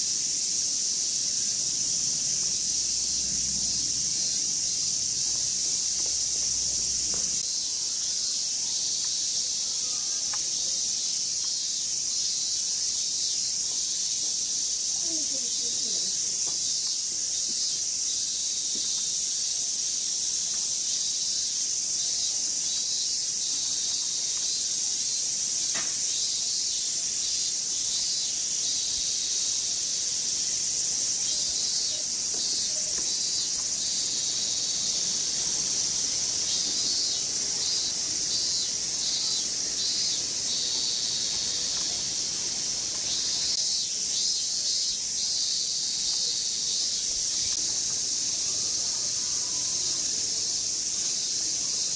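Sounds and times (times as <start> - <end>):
cicadas buzzing: 0.0 - 51.9.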